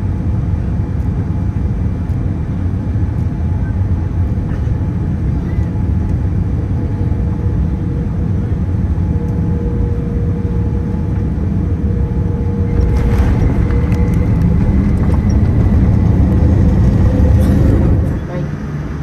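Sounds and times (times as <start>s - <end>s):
airliner engine rumble in cabin: 0.0s - 19.0s.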